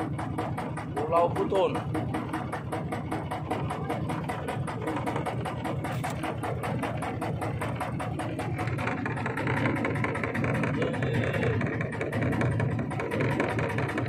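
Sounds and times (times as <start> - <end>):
boat engine puttering: 0.0 - 14.0.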